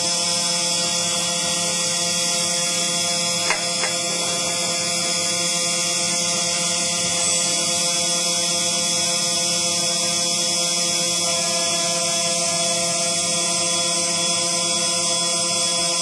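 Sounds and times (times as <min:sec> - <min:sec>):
engraving machine droning with hiss: 0:00.0 - 0:16.0.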